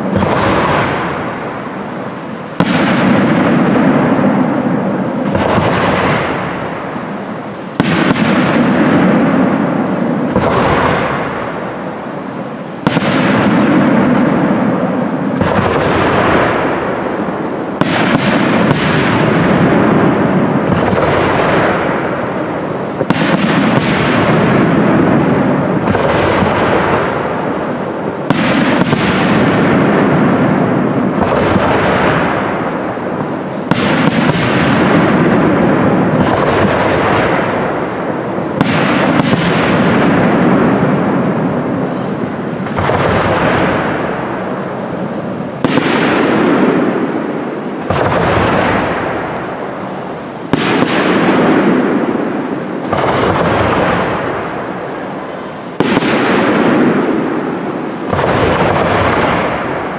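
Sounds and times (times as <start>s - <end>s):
firework bangs with rolling echo: 0.0s - 59.9s.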